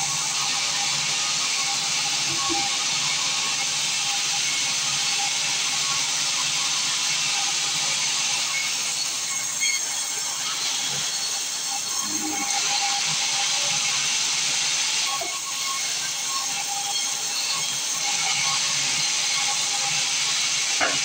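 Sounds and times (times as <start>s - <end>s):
sawmill saw running: 0.0s - 21.0s.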